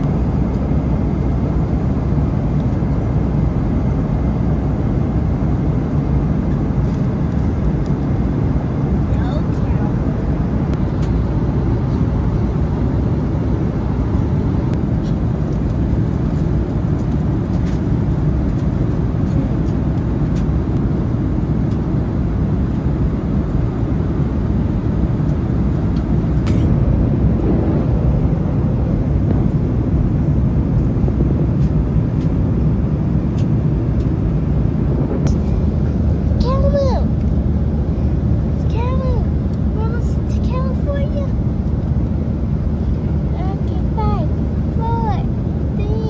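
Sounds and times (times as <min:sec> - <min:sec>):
jet airliner cabin noise: 0:00.0 - 0:46.0.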